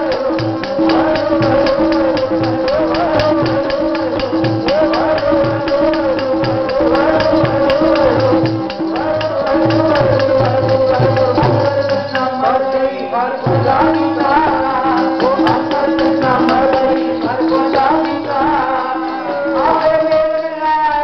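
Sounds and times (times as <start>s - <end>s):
harmonium held tone: 0.0s - 21.0s
jingling percussion: 0.0s - 21.0s
person singing: 0.0s - 21.0s
tabla drumming: 0.0s - 21.0s.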